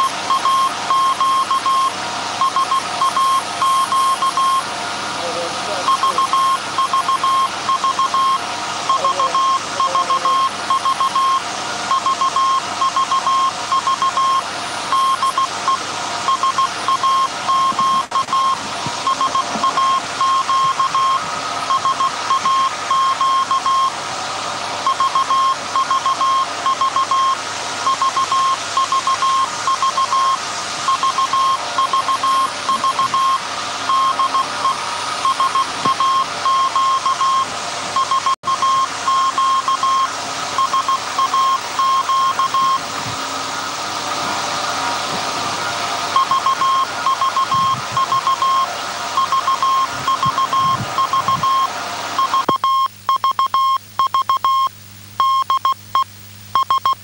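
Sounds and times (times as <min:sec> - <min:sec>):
morse code beeps: 0:00.0 - 0:04.7, 0:05.8 - 0:24.0, 0:24.8 - 0:42.9, 0:46.1 - 0:57.0
machine hall noise: 0:00.0 - 0:52.6.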